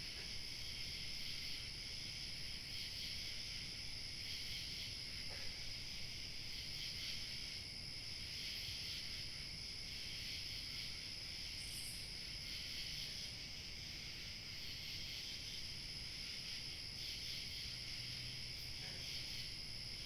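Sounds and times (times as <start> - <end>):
crickets chirping: 0.0 - 20.0
high insect trill: 0.1 - 20.0.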